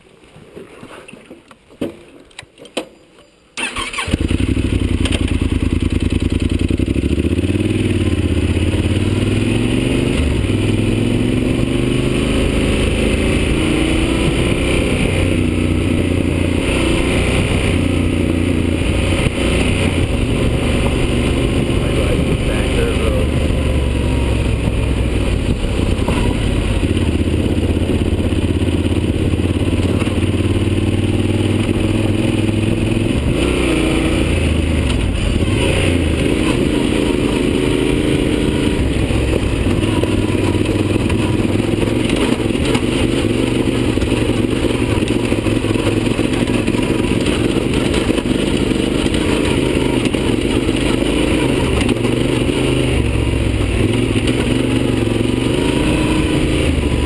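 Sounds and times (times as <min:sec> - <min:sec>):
motorcycle engine running: 0:03.6 - 0:57.0.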